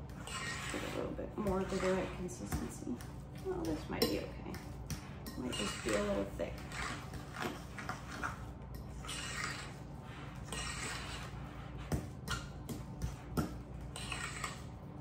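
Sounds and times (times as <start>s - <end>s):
fork mashing filling in bowl: 0.0s - 15.0s.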